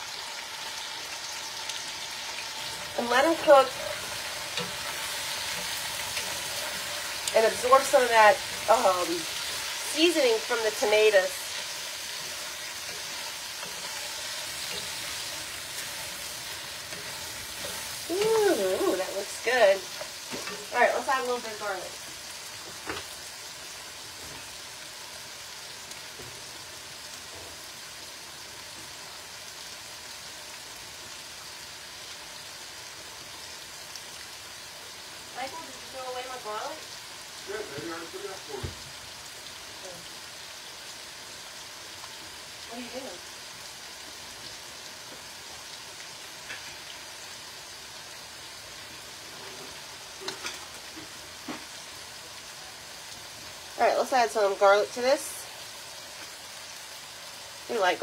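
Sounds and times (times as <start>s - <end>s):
food sizzling in a pot: 0.0s - 58.0s.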